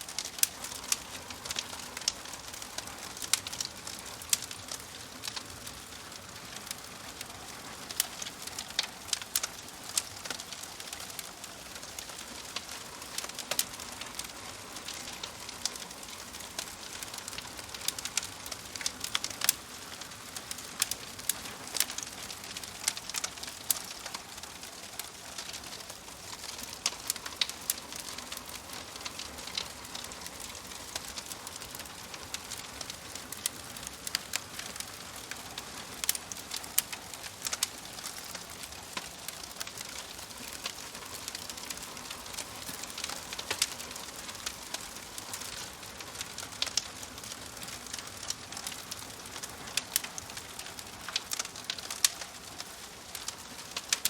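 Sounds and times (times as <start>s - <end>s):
soft fire hiss: 0.0s - 54.0s
wood fire crackling: 0.0s - 54.0s.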